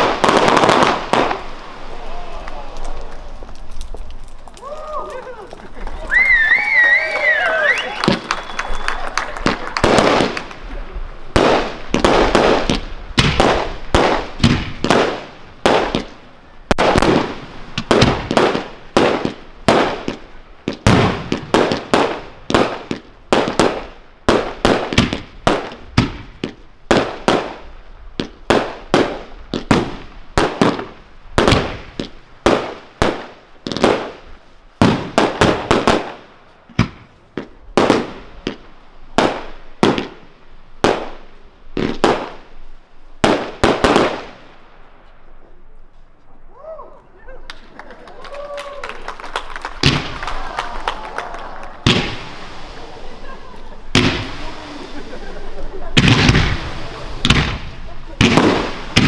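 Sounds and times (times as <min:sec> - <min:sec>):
fireworks bangs echoing: 0:00.0 - 0:06.1, 0:07.8 - 0:45.4, 0:49.4 - 0:59.0.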